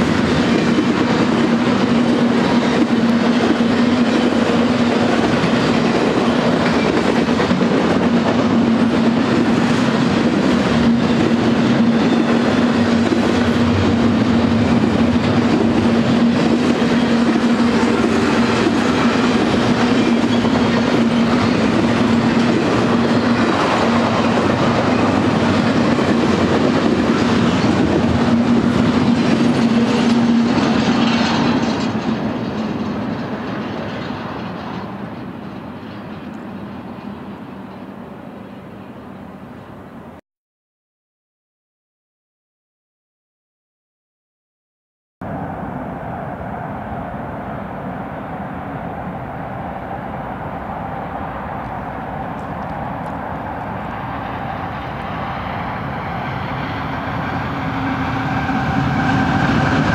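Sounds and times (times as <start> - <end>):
train wheels rumbling on rail: 0.0 - 40.1, 45.2 - 59.9.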